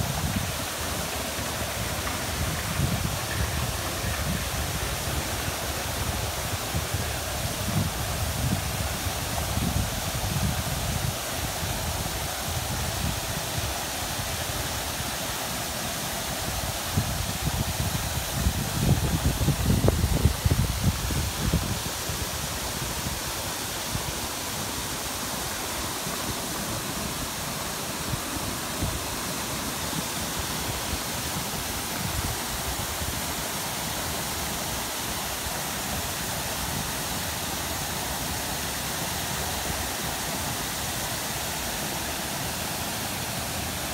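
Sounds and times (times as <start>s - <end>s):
fountain water splashing: 0.0s - 43.9s.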